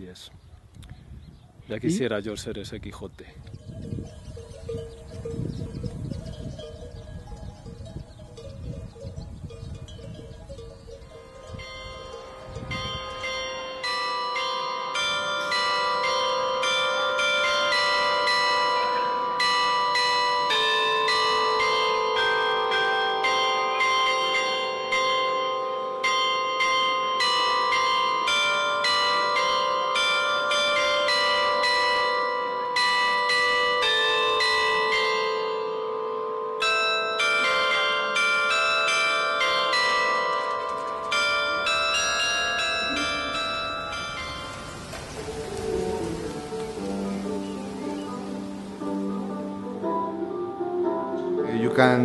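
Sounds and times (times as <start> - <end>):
carillon bells playing a tune: 3.6 - 51.4.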